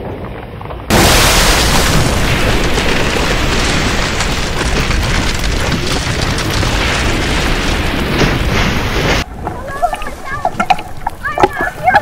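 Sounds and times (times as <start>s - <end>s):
surf crashing: 0.9s - 12.0s.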